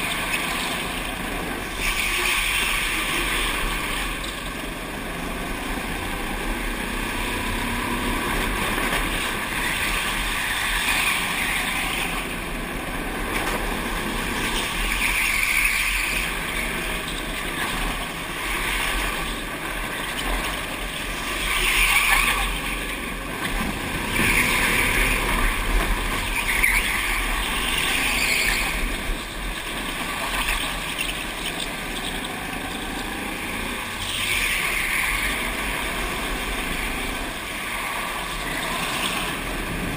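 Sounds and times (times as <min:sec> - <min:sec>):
go-kart motor: 0:00.0 - 0:39.9.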